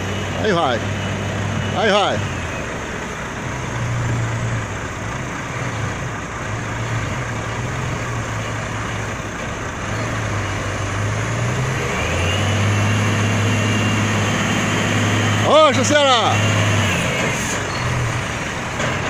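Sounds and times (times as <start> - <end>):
road and tyre noise: 0.0 - 19.0
truck diesel engine droning: 0.0 - 19.0.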